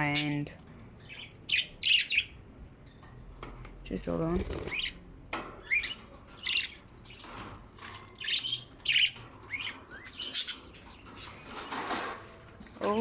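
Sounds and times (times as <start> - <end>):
budgerigars chirping and squawking: 0.0 - 2.5, 4.3 - 12.4.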